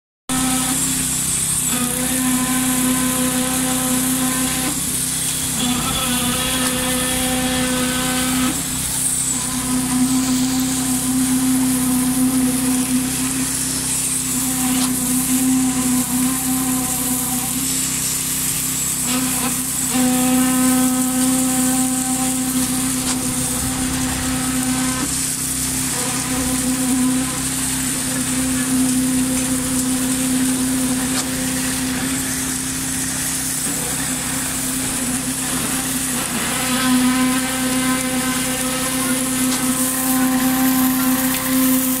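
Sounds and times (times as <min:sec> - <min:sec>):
concrete vibrator humming: 0:00.3 - 0:42.0.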